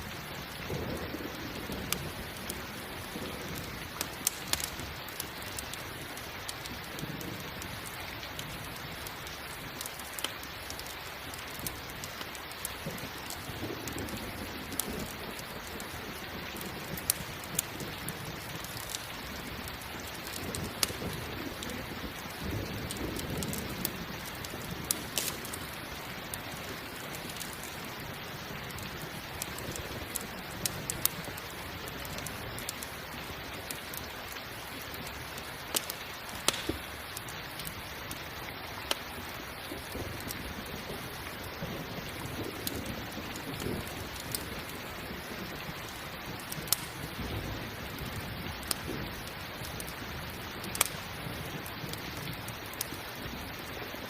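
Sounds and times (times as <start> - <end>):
campfire crackling: 0.0 - 54.0
steady rain: 0.0 - 54.0.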